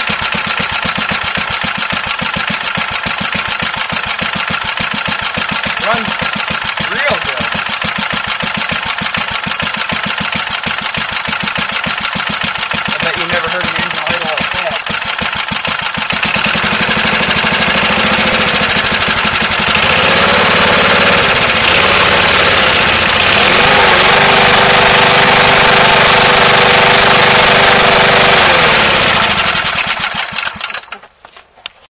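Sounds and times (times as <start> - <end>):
lawn mower engine running: 0.0 - 31.4.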